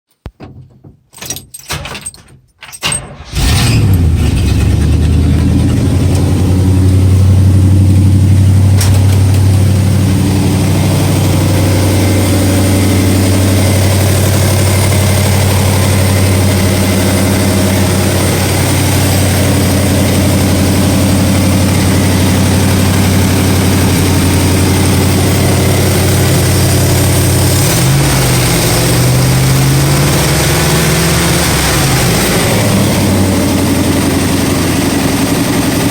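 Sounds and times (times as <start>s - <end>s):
car engine cranking and idling: 0.4s - 35.9s.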